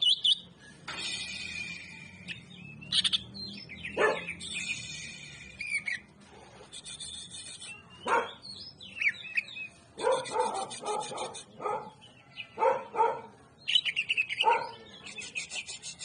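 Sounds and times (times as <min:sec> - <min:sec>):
bird chirps trills and whistles: 0:00.0 - 0:06.1, 0:06.7 - 0:11.6, 0:13.7 - 0:16.0.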